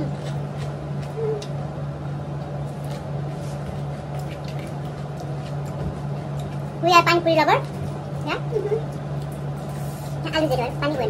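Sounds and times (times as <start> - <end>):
wet chewing: 0.0 - 1.6, 2.4 - 10.3
steady low hum: 0.0 - 11.0.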